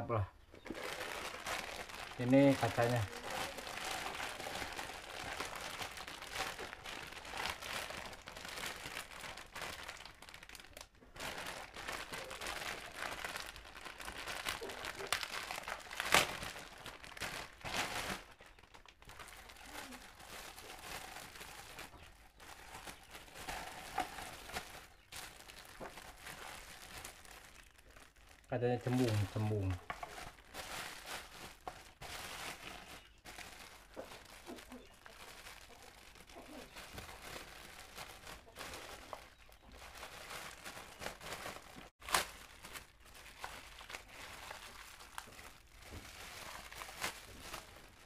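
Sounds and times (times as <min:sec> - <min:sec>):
plastic bag crinkling: 0:00.4 - 0:48.0.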